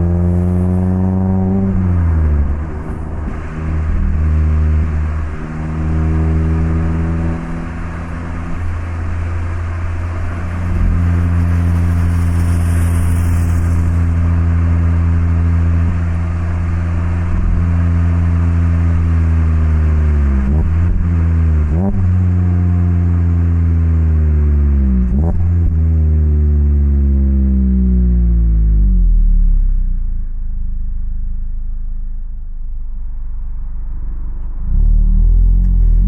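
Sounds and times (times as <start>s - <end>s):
car engine and exhaust driving: 0.0s - 36.0s.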